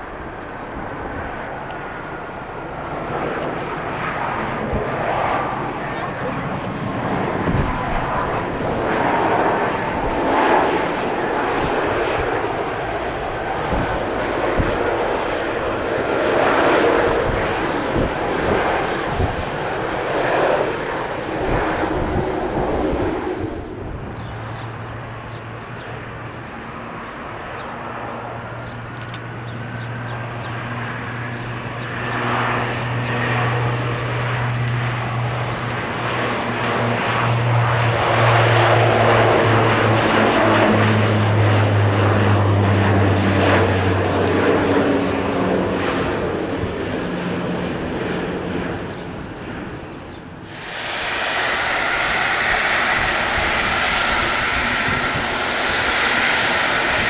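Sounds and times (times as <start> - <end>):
other aircraft noise: 0.0 - 57.0
turboprop propeller drone: 0.0 - 57.0.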